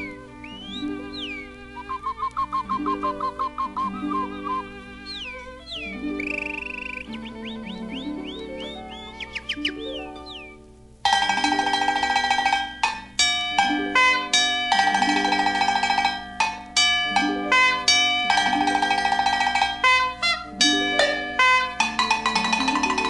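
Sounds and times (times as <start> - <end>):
instrumental music: 0.0 - 23.0.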